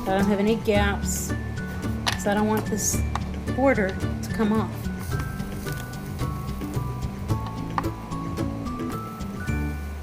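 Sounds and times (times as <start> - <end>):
plucked notes music: 0.0 - 10.0.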